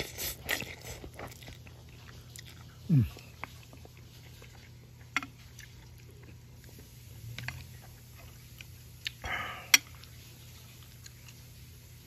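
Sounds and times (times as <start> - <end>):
person chewing noodles: 0.0 - 11.7
steady low hum: 0.0 - 12.0.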